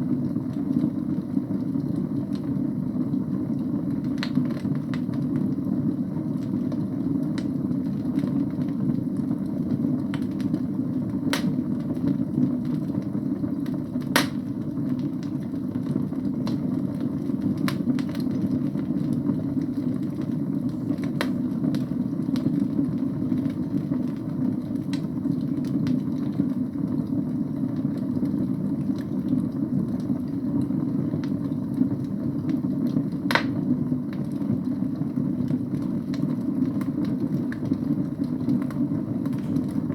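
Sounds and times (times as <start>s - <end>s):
burning logs popping and crackling: 0.0s - 39.9s.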